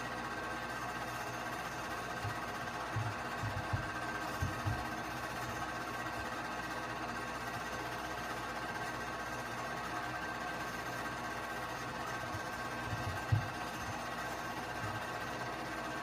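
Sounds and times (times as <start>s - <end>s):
movie projector whirring: 0.0s - 16.0s.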